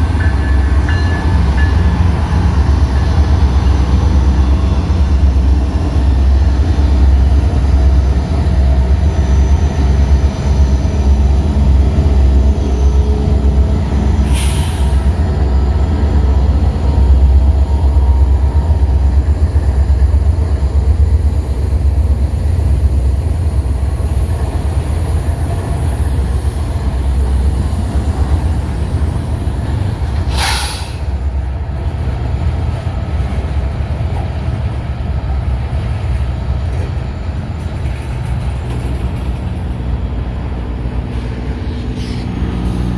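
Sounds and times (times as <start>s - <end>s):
freight train rumbling past: 0.0s - 42.9s.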